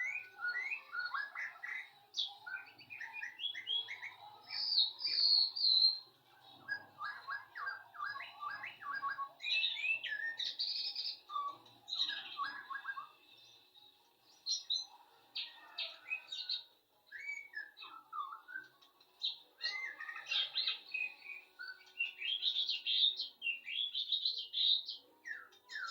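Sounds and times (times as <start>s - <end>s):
bird chirping and warbling: 0.0s - 13.6s, 14.2s - 25.9s.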